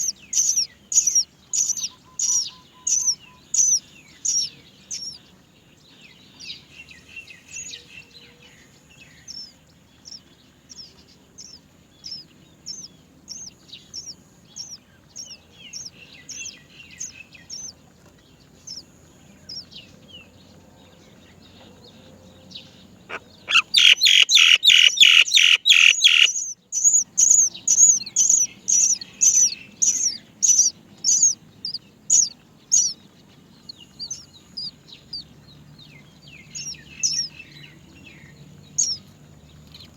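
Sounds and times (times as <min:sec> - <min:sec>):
nestlings begging calls: 0:00.0 - 0:05.4, 0:09.0 - 0:17.8, 0:18.6 - 0:18.8, 0:19.4 - 0:19.8, 0:22.6 - 0:39.9.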